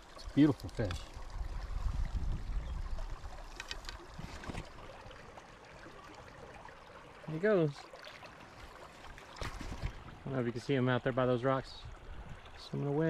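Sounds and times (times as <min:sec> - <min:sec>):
creek water trickling over rocks: 0:00.0 - 0:13.0
water splashes: 0:00.0 - 0:13.0.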